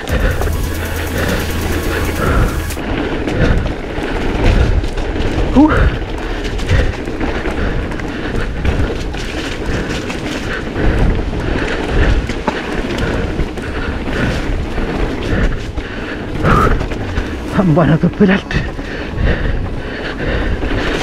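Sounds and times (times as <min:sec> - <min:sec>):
mountain bike rattling: 0:00.0 - 0:21.0
tyre and ground noise: 0:00.0 - 0:21.0.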